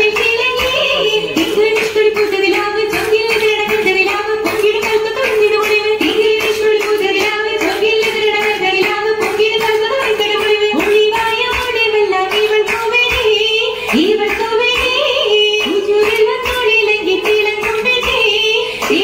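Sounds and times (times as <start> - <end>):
rhythmic hand claps: 0.0 - 19.0.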